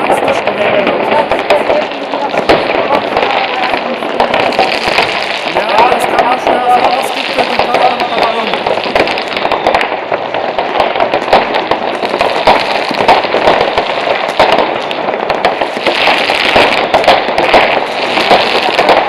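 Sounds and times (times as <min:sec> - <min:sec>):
firecracker bangs: 0:00.0 - 0:19.0
fireworks crackling and popping: 0:00.0 - 0:19.0.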